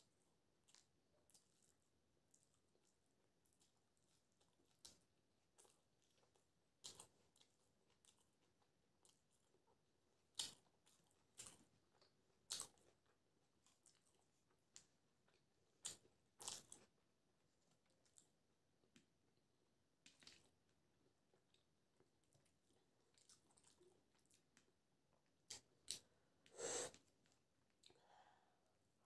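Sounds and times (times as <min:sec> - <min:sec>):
crisp crunching chewing: 0:00.2 - 0:19.1, 0:20.0 - 0:26.1.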